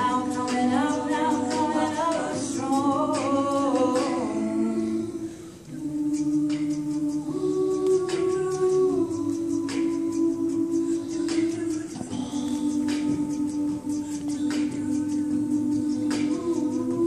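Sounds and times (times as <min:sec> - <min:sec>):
a cappella group singing: 0:00.0 - 0:17.0.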